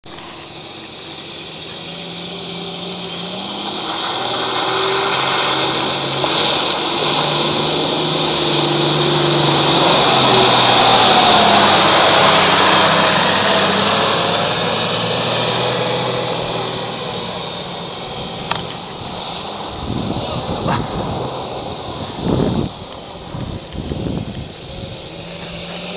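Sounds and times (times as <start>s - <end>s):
suv engine revving: 0.0s - 25.9s.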